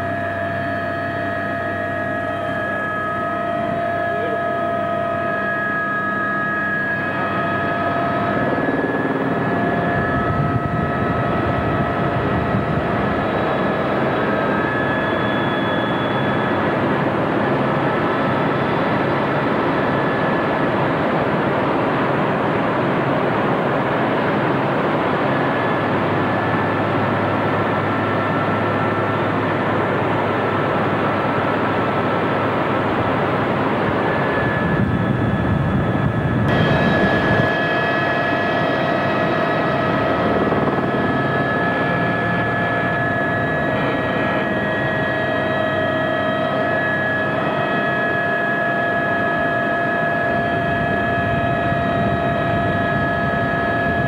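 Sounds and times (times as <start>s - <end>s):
helicopter rotor and engine rush: 0.0s - 54.0s
high turbine whine: 0.0s - 54.0s.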